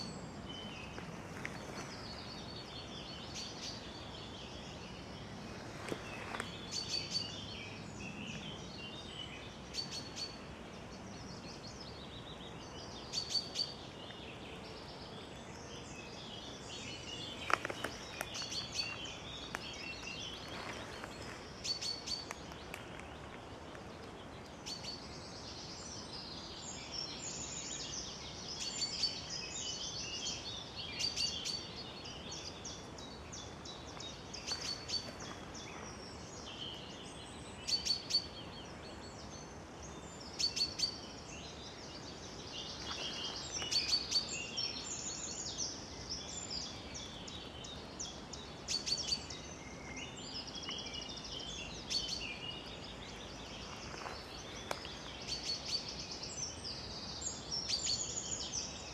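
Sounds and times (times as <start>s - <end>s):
faint steady background noise: 0.0s - 58.9s
songbirds singing: 0.0s - 58.9s.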